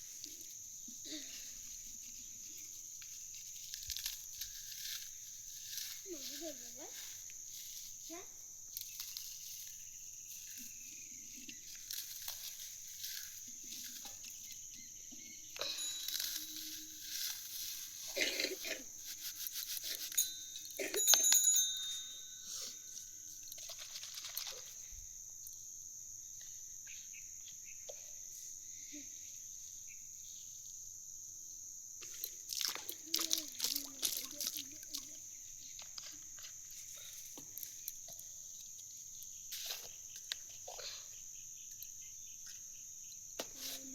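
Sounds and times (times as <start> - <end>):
crickets chirring: 0.0 - 43.9.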